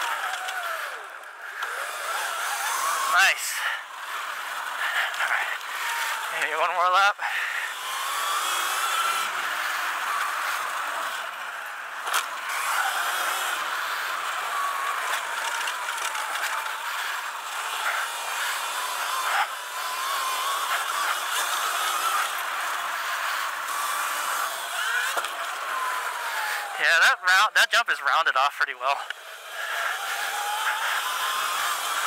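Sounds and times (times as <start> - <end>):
electric motor whine: 0.0 - 28.0, 29.0 - 32.0.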